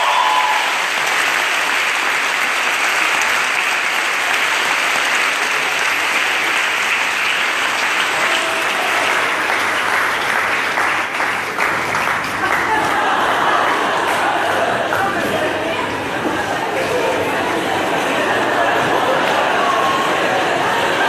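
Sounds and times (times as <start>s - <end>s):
large crowd applauding: 0.0s - 21.0s.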